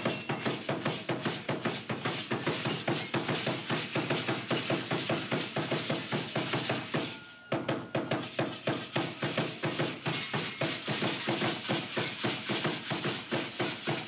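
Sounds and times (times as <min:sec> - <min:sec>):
fast steady drum beat: 0:00.0 - 0:07.2, 0:07.9 - 0:14.0.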